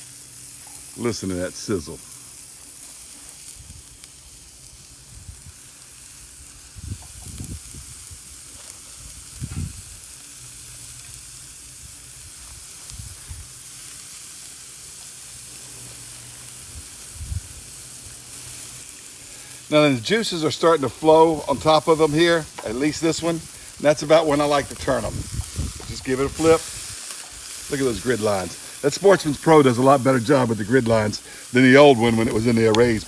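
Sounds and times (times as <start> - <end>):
burger patties sizzling: 0.0 - 33.0.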